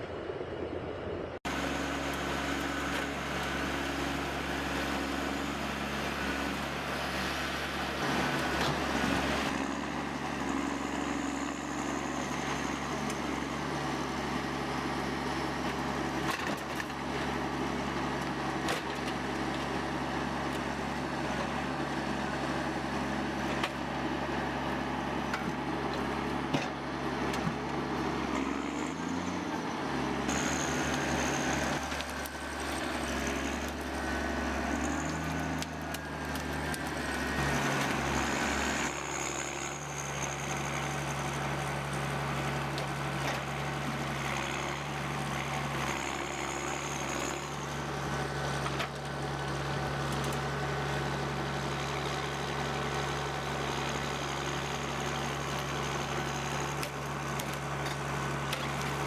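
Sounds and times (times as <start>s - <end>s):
heavy machine engine running: 0.0s - 59.0s.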